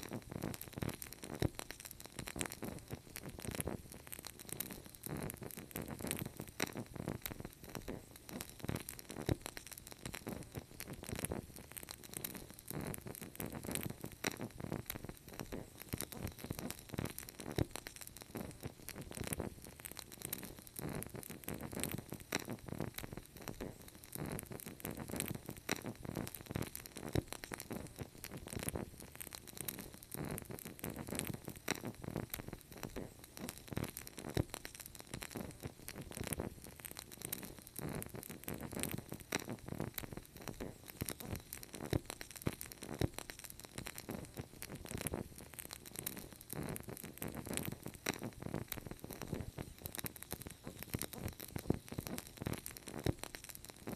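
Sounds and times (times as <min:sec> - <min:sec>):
low steady hiss: 0:00.0 - 0:53.9
wood fire crackling: 0:00.0 - 0:53.9.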